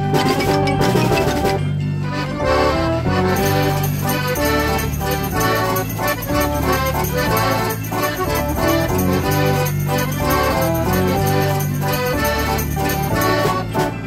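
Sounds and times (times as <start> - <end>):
drum beats: 0.0 - 1.6, 3.4 - 14.0
dance organ playing: 0.0 - 14.0.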